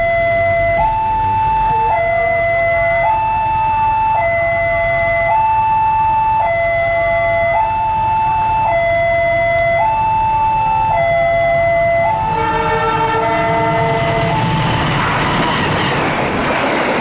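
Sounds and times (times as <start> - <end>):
two-tone crossing alarm: 0.0 - 16.6.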